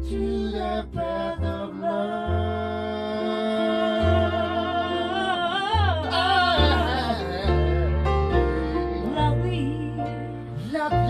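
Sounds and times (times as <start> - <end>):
upright bass plucked: 0.0 - 11.0.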